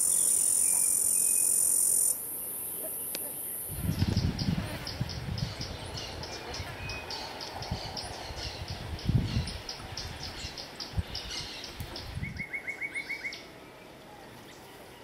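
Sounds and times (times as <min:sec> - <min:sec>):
birds chirping: 0:02.4 - 0:15.0.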